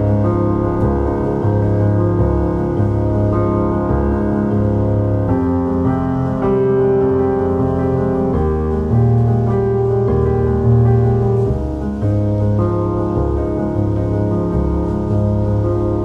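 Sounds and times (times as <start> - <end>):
soft piano music: 0.0 - 16.0
steady bass: 0.0 - 16.0.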